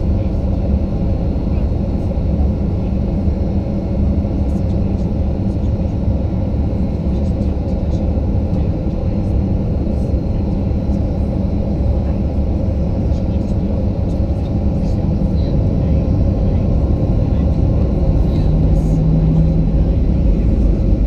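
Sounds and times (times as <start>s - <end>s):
jet engines idling in cabin: 0.0s - 21.0s.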